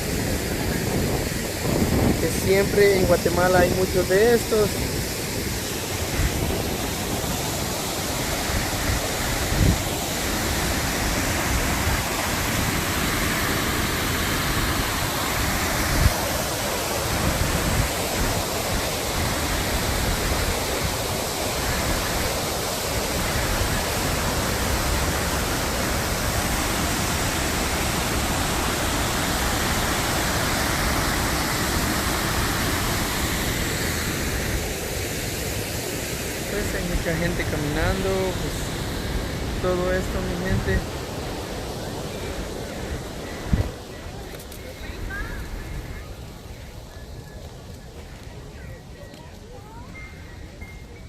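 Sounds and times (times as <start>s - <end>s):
river and waterfall rushing: 0.0s - 49.4s.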